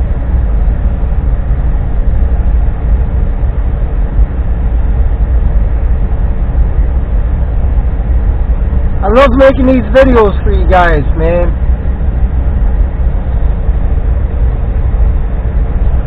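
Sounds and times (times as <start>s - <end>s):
faint constant hum: 0.0s - 16.0s
truck engine idling rumble: 0.0s - 16.0s.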